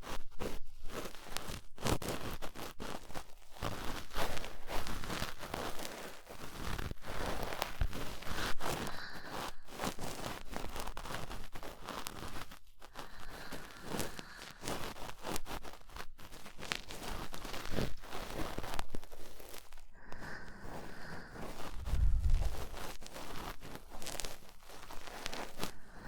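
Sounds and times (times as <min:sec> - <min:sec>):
cotton swab scraping microphone: 0:00.0 - 0:26.0.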